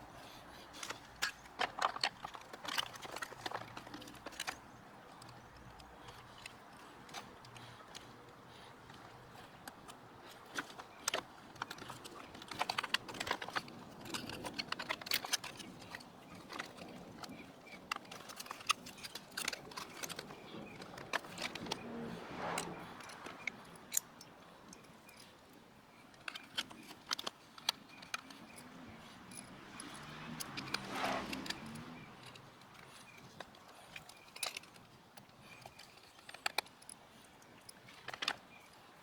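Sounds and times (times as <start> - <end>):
hands handling plastic parts: 0.0 - 22.0, 22.9 - 38.5.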